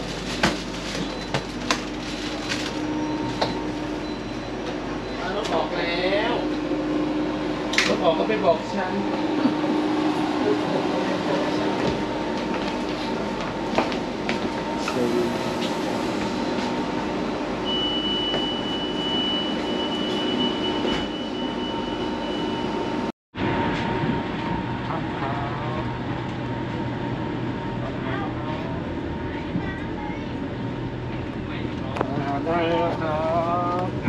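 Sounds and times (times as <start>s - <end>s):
train carriage rumble and hum: 0.0s - 34.0s.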